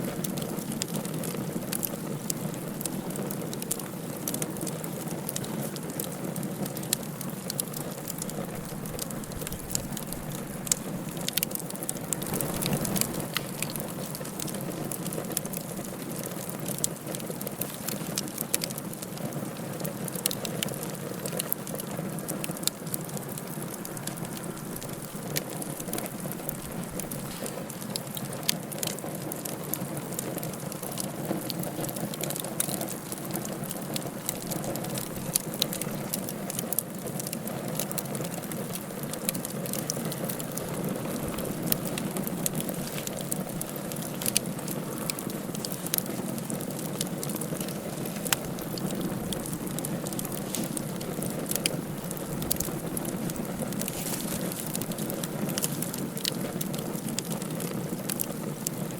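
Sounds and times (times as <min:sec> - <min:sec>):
fire crackles and pops: 0:00.0 - 0:58.9
low rush of flame: 0:00.1 - 0:19.2, 0:19.8 - 0:58.8.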